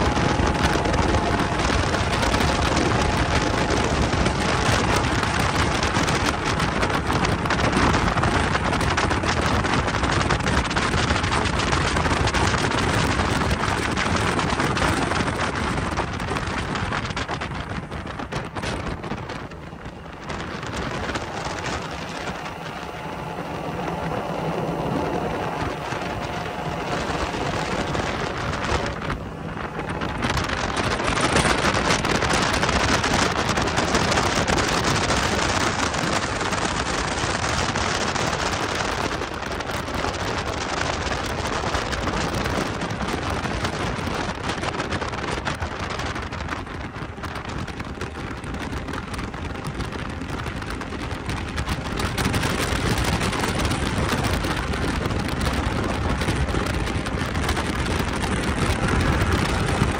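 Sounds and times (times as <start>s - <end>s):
boat motor running: 0.0s - 59.9s
water rushing along hull: 0.0s - 59.9s
wind buffeting microphone: 0.0s - 59.9s.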